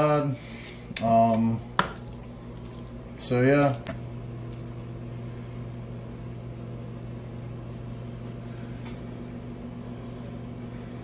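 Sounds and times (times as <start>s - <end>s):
household appliance humming: 0.0s - 11.0s.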